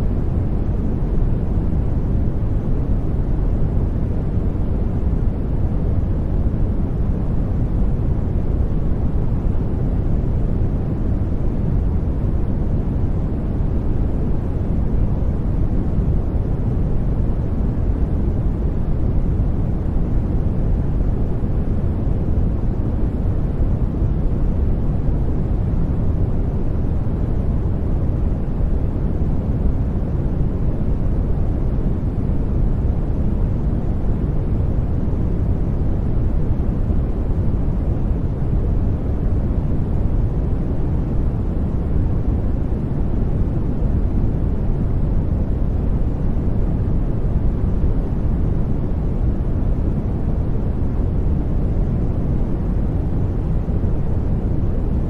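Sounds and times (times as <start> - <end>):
deep-toned white noise: 0.0 - 55.0.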